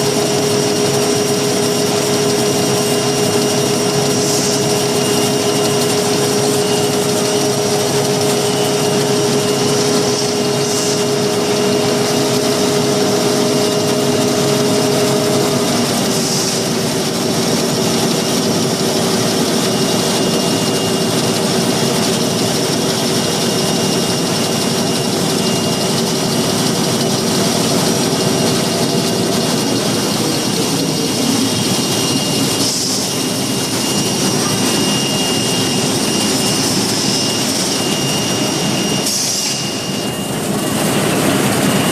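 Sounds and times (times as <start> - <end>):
napkin machine running: 0.0 - 41.9.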